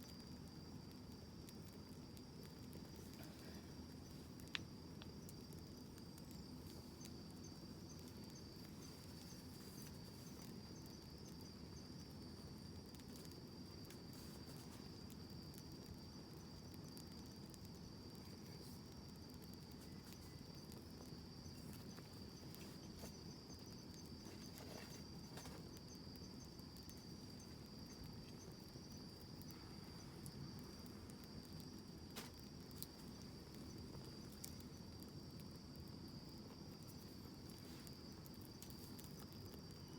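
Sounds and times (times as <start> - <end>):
insect trill: 0.0 - 39.9
wood fire crackling: 0.0 - 39.9.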